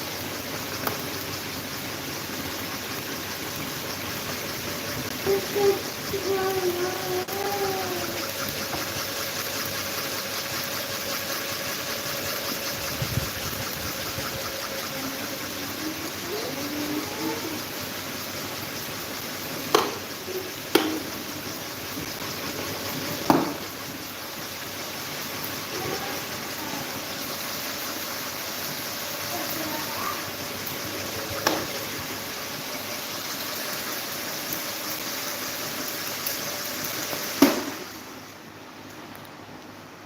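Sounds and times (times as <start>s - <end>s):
electric fan whooshing hiss: 0.0s - 40.0s.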